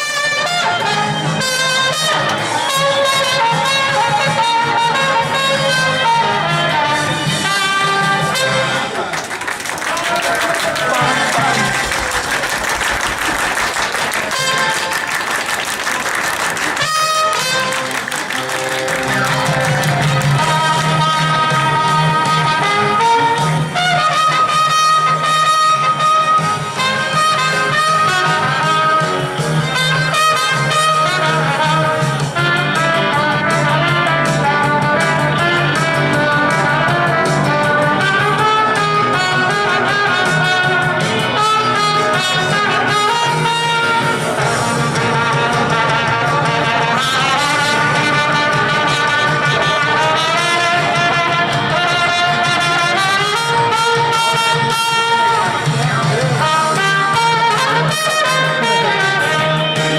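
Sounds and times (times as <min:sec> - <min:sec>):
trumpet playing a melody: 0:00.0 - 0:09.2, 0:09.9 - 0:59.9
upbeat band backing track: 0:00.0 - 0:59.9.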